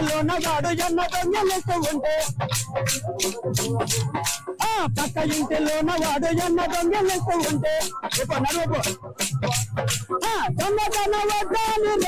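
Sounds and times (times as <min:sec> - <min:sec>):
person singing: 0:00.0 - 0:09.3, 0:10.1 - 0:12.0
sharp stick clicks: 0:00.0 - 0:12.0.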